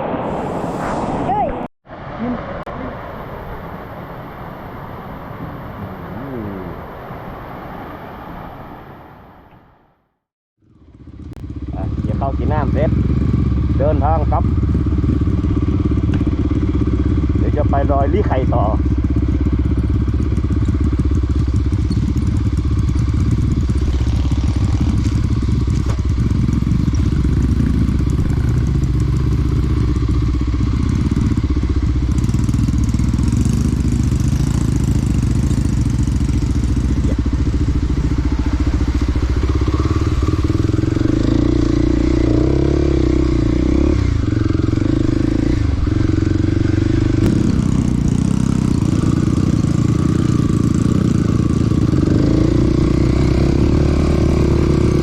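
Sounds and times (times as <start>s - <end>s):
dirt bike engine running: 10.6s - 55.0s.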